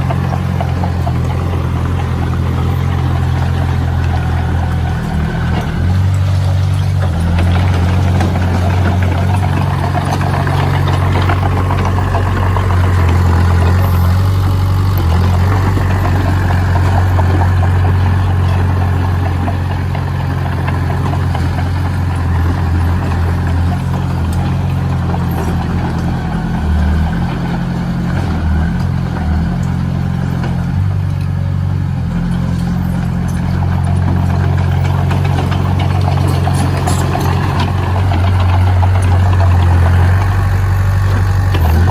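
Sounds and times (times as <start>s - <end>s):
heavy machine engine running: 0.0s - 41.9s.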